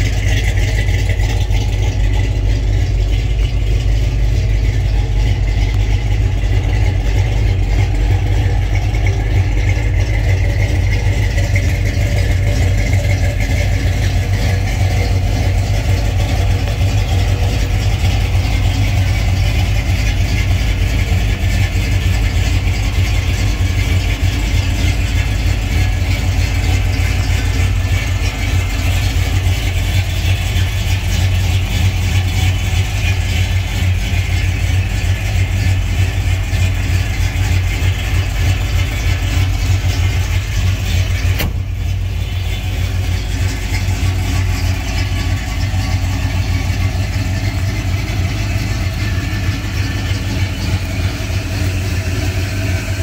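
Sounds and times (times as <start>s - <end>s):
truck engine idling: 0.0s - 53.0s.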